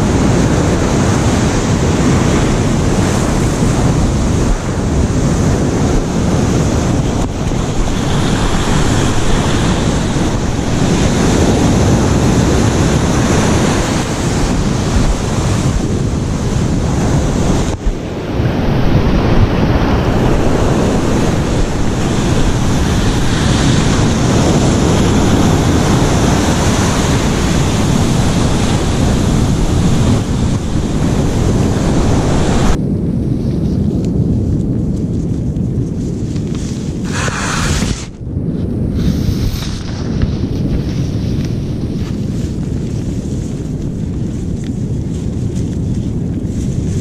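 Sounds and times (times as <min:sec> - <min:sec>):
ocean surf washing on beach: 0:00.0 - 0:32.8, 0:36.0 - 0:47.0
wind buffeting microphone: 0:00.0 - 0:47.0.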